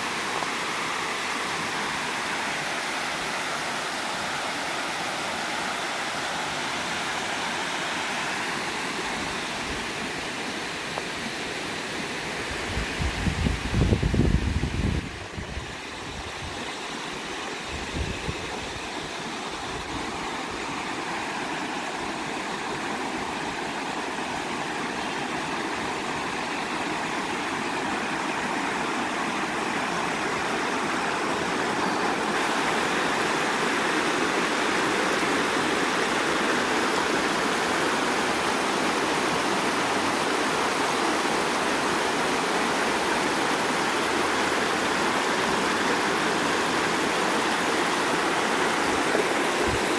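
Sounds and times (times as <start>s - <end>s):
water rushing over rocks: 0.0s - 49.9s.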